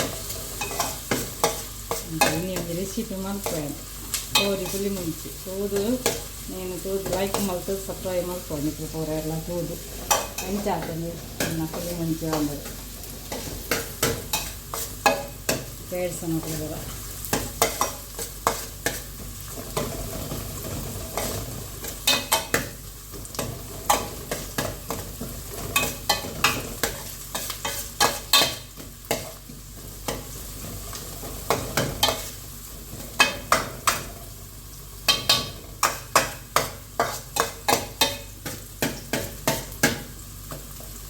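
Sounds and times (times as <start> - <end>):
spoon scraping a pan: 0.0 - 7.8, 9.1 - 41.0
low steady sizzle: 0.0 - 41.0.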